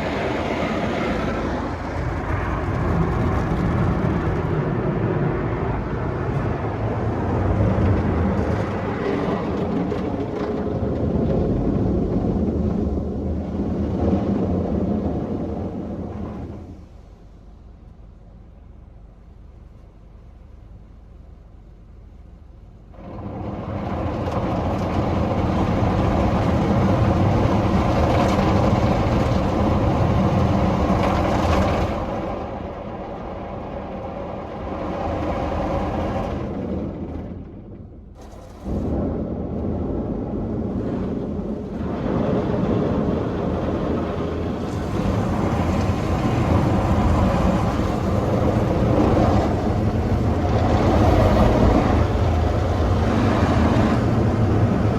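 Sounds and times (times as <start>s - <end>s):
car wash machine running: 0.0s - 54.9s.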